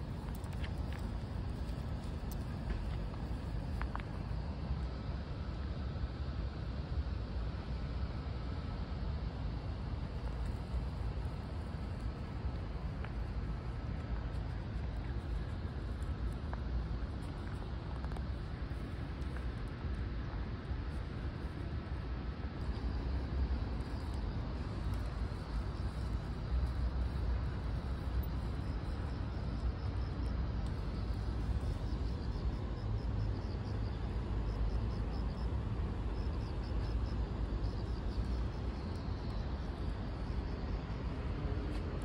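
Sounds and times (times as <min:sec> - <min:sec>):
distant traffic rumble: 0:00.0 - 0:42.0.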